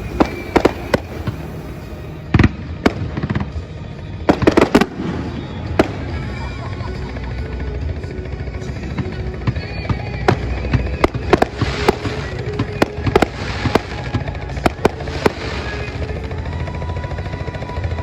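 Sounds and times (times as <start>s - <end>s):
fireworks bangs: 0.0s - 7.8s, 8.5s - 16.7s
fireworks crackling: 0.0s - 18.0s.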